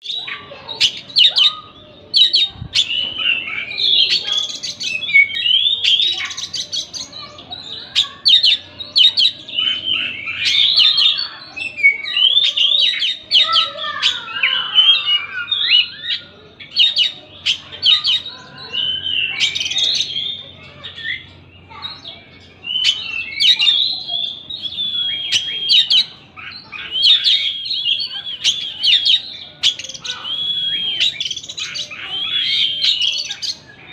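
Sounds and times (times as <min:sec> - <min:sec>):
bird singing varied song: 0:00.0 - 0:33.9.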